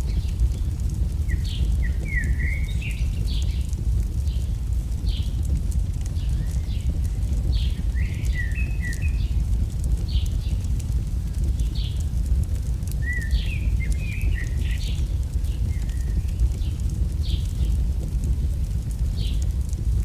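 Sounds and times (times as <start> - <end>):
birds chirping: 0.0 - 19.8
fire crackling: 0.0 - 20.0
fire rumbling: 0.0 - 20.0.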